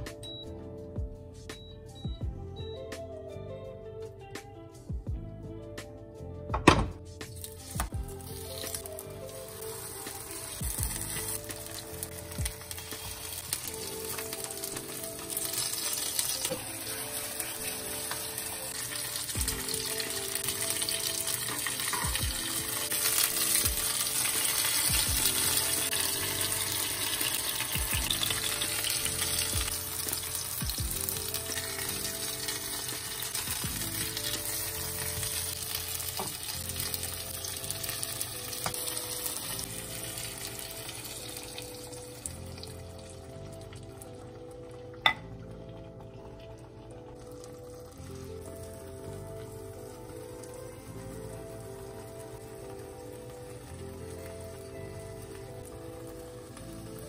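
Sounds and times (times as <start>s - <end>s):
soft background music: 0.0s - 57.0s
tomato slices sizzling in oil: 7.3s - 44.3s, 45.0s - 57.0s.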